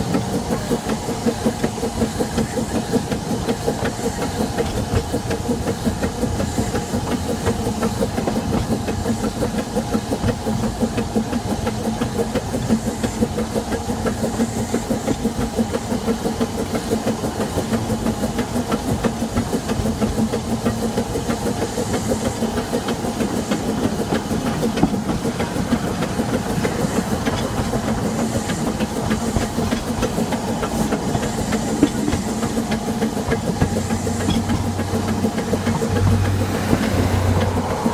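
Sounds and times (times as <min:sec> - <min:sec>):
hiss of steam: 0:00.0 - 0:37.9
steam locomotive exhaust chuffing: 0:00.0 - 0:37.9.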